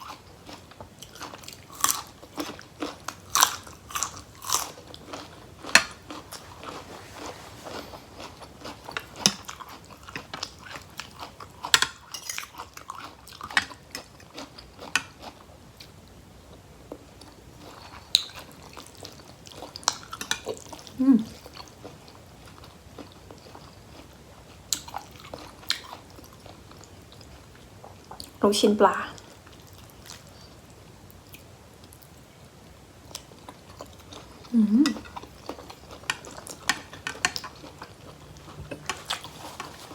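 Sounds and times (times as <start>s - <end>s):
chewing noodles: 0.0s - 15.9s, 17.2s - 28.4s, 33.1s - 39.9s.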